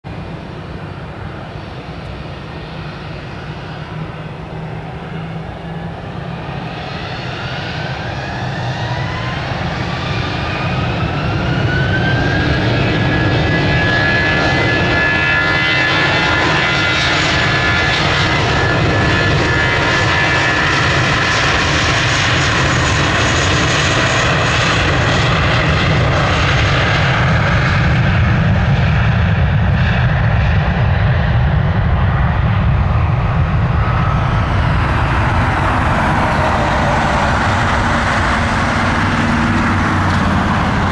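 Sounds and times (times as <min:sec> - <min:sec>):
jet engine roar: 0:00.1 - 0:40.9
jet engines spooling up: 0:00.2 - 0:40.9.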